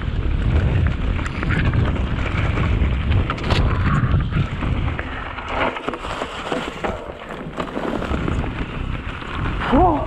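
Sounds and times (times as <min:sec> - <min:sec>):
bike tyre noise on dirt: 0:00.0 - 0:10.0
wind rumbling on microphone: 0:00.0 - 0:10.0.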